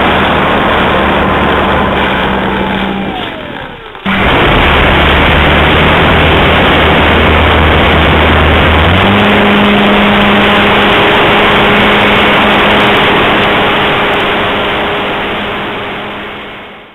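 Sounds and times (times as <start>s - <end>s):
electric motor and propeller whine: 0.0s - 16.9s.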